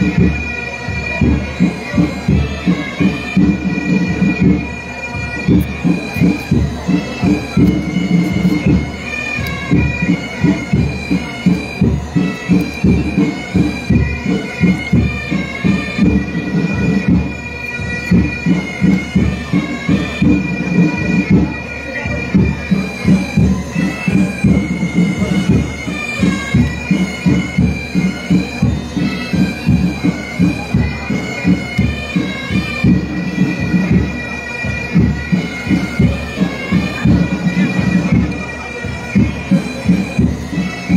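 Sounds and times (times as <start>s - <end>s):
bagpipes playing melody: 0.0s - 40.9s
drum beating slowly: 0.0s - 40.9s.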